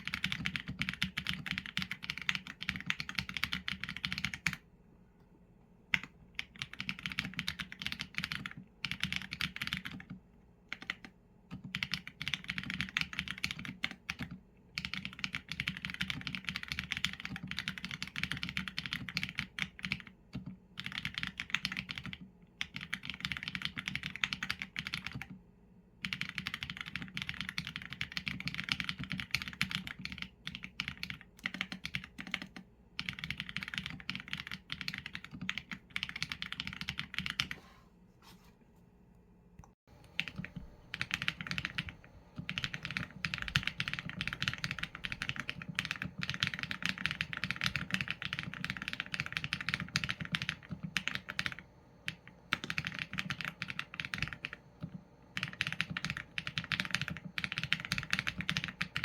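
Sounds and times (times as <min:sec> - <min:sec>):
mechanical keyboard typing: 0:00.0 - 0:04.6, 0:05.9 - 0:25.4, 0:26.0 - 0:37.6, 0:40.0 - 0:59.0.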